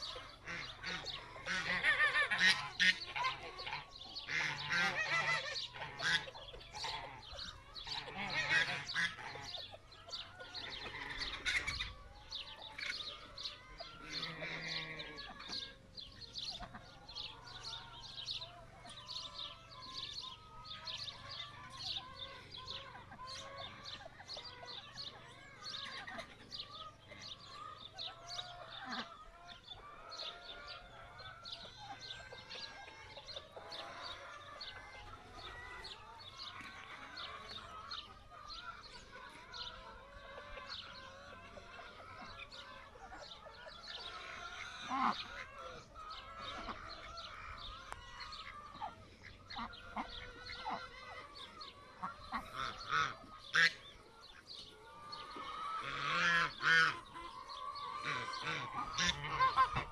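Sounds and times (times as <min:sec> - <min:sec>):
poultry chirping and peeping: 0:00.0 - 0:59.9
poultry clucking: 0:00.0 - 0:59.9.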